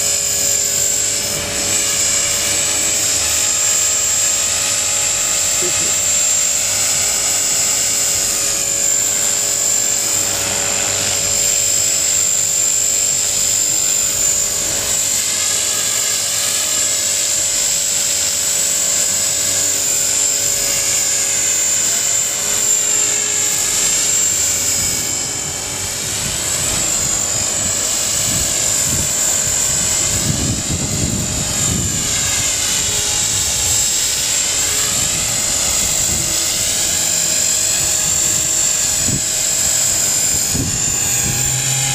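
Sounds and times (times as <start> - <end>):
high motor whine: 0.0 - 41.9
rotor blades whirring: 0.0 - 41.9.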